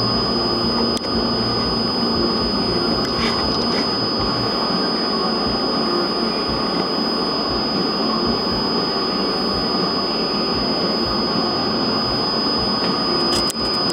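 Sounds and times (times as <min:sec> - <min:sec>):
milling machine whining: 0:00.0 - 0:13.9.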